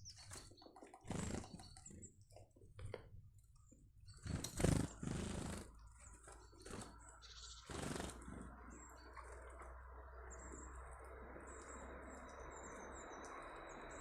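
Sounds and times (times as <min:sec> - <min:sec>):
faint bird chirps: 0:00.0 - 0:02.4, 0:03.6 - 0:14.0
birds fluttering and rustling: 0:00.0 - 0:13.0.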